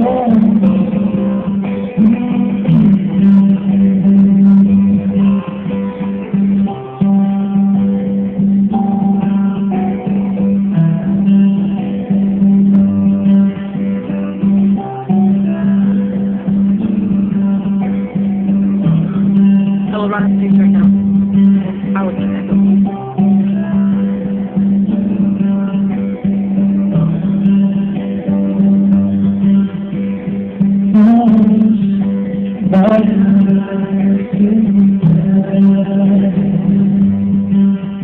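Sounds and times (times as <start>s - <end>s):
plucked guitar notes: 0.0s - 38.0s.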